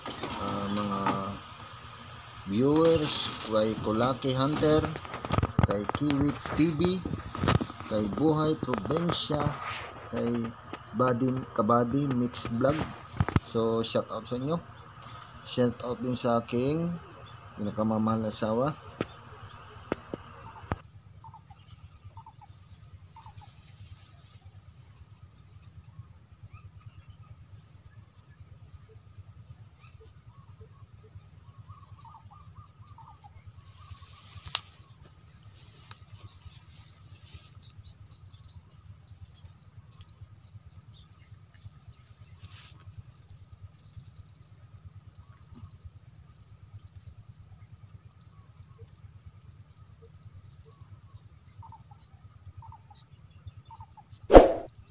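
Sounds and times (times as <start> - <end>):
insects buzzing steadily: 0.0 - 54.9
loud pulsing insect chirr: 0.0 - 54.9.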